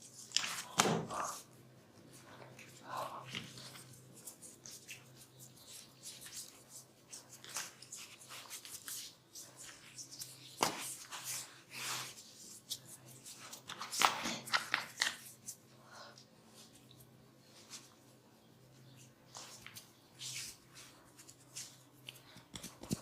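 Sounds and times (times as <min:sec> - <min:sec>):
hands rubbing and tapping skin: 0:00.0 - 0:01.5, 0:02.1 - 0:15.6, 0:18.8 - 0:23.0
faint low hum: 0:00.0 - 0:23.0.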